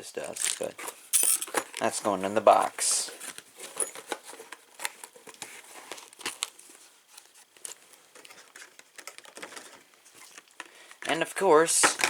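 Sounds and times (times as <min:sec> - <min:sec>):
packaging rustling and crinkling: 0:00.2 - 0:11.2.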